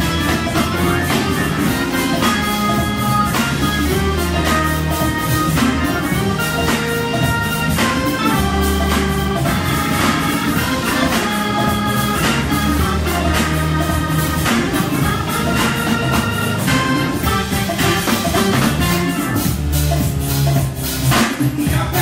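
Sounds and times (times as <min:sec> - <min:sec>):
live band playing: 0:00.0 - 0:22.0
low bass notes: 0:00.0 - 0:22.0
organ: 0:00.0 - 0:22.0.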